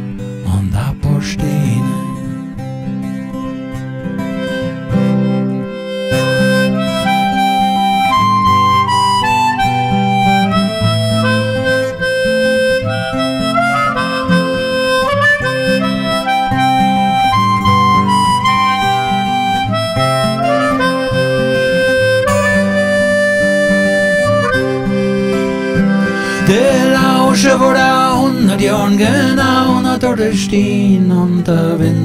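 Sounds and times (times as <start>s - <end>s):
guitar accompaniment: 0.0s - 32.0s
reed wind instrument melody: 3.3s - 30.1s.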